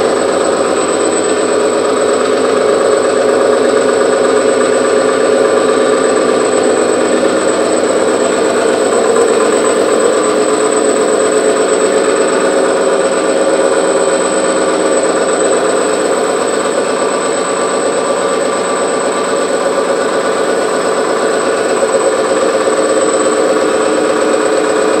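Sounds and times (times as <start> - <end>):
engine mechanical hum with whine: 0.0 - 25.0.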